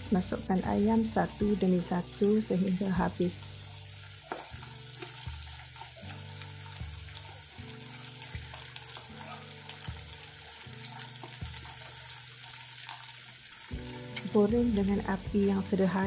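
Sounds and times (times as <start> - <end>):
hot oil sizzling and crackling: 0.0 - 16.0
soft background music: 0.0 - 16.0.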